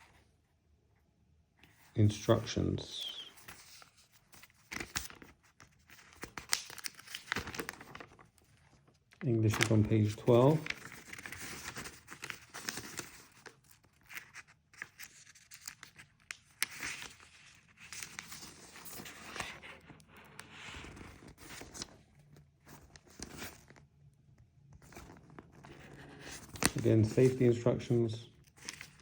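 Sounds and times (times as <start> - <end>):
paper pages rustling: 1.6 - 23.9, 24.6 - 29.0.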